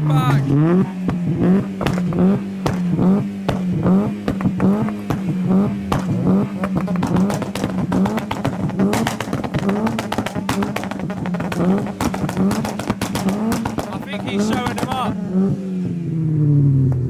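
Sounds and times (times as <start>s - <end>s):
exhaust pops and bangs: 0.0s - 15.7s
car engine revving: 0.0s - 17.0s.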